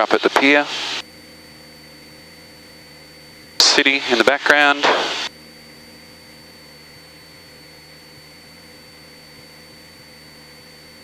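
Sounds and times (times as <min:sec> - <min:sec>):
propeller plane engine droning: 0:00.0 - 0:11.0
thin high whine: 0:00.0 - 0:11.0.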